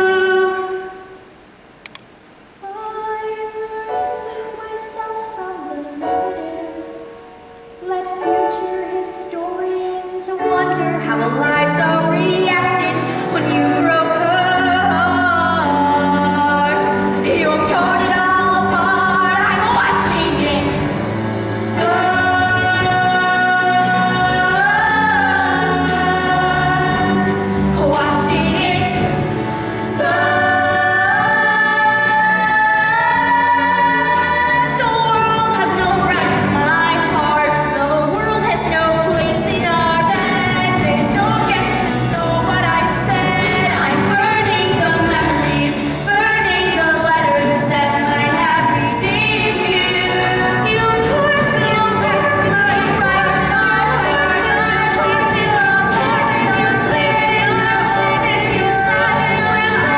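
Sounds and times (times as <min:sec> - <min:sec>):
vocal group singing: 0:10.4 - 0:59.9.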